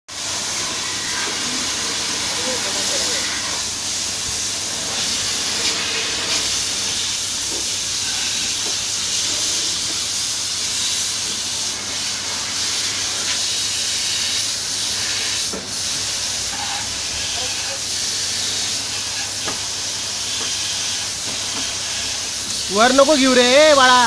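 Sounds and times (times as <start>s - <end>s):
high-pressure water spraying: 0.1s - 24.0s.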